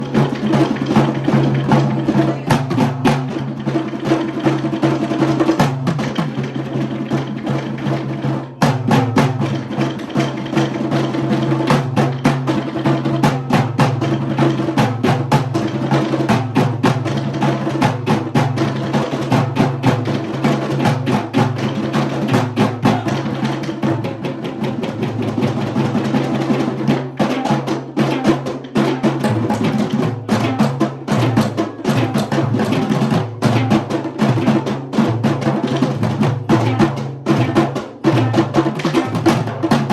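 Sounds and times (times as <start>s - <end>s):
drum ensemble playing fast rhythms: 0.0s - 39.9s.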